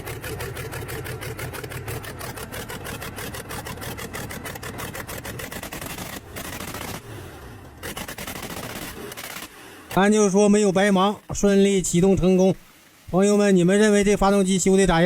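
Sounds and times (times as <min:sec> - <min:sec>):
diesel engine clattering: 0:00.0 - 0:12.2.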